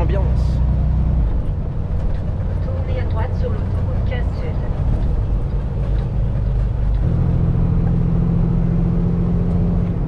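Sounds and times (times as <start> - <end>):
truck engine low hum: 0.0 - 10.0.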